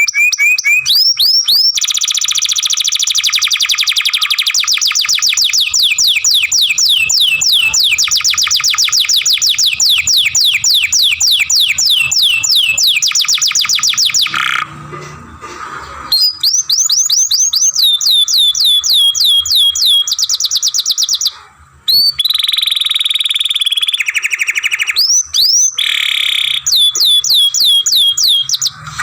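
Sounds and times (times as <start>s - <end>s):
canary singing rapid trill: 0.0s - 14.9s, 16.0s - 29.0s.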